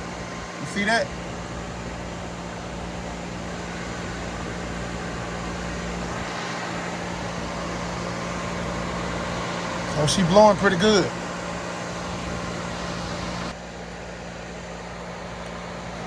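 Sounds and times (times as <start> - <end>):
radiator cooling fan running: 0.0 - 16.0.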